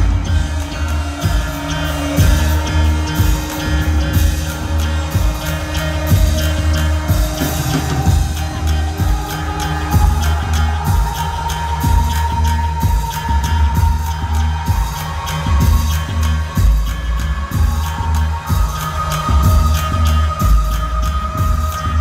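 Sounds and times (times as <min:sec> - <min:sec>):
kick drum: 0:00.0 - 0:03.6, 0:05.1 - 0:06.5, 0:08.0 - 0:22.0
heavy sustained bass: 0:00.0 - 0:22.0
live band music: 0:00.0 - 0:22.0.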